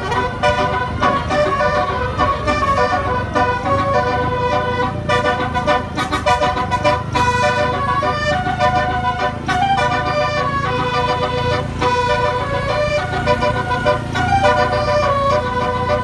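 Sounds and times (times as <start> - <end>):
multi-tone horn playing a tune: 0.0 - 16.0.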